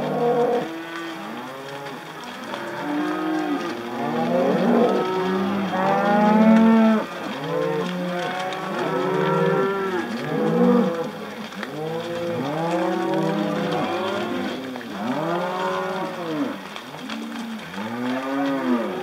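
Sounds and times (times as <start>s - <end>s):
cattle mooing: 0.0s - 19.0s.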